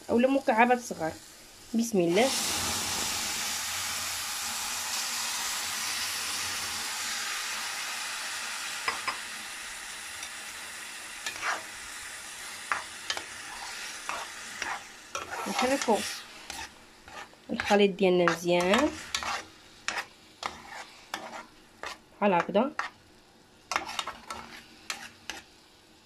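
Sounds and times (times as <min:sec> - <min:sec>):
tomatoes sizzling in hot oil: 0:00.0 - 0:26.0.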